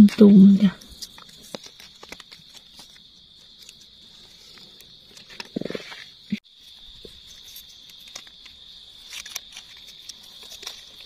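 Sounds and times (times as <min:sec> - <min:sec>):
rustling of dry leaf litter: 0:00.1 - 0:11.0.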